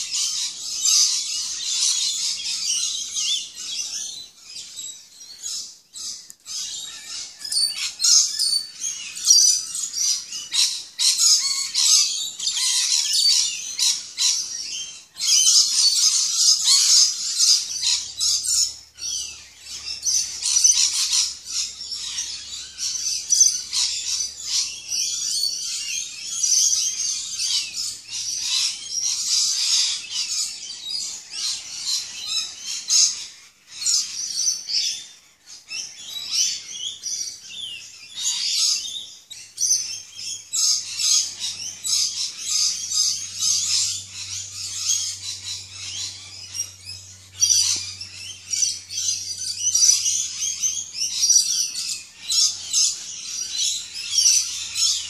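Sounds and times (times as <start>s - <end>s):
birds chattering and screeching: 0.0s - 55.0s.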